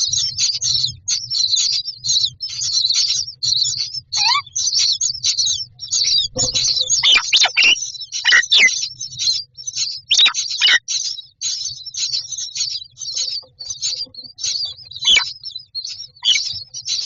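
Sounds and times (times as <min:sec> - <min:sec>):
birds calling raspy chirps: 0:00.0 - 0:17.0.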